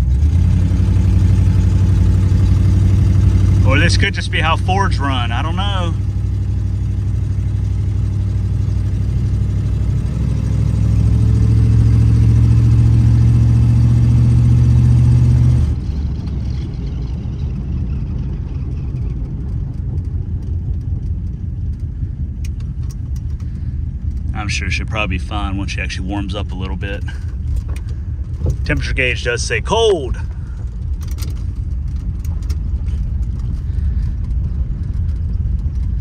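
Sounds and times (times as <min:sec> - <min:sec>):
car engine from inside cabin: 0:00.0 - 0:36.0.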